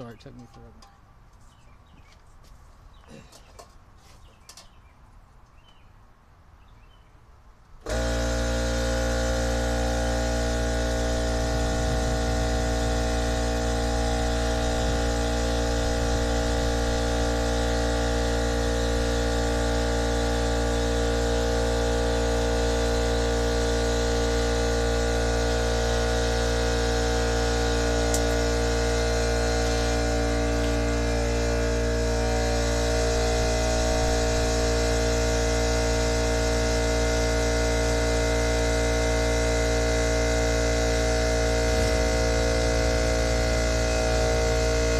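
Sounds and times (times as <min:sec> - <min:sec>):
air compressor running: 0:07.8 - 0:44.9.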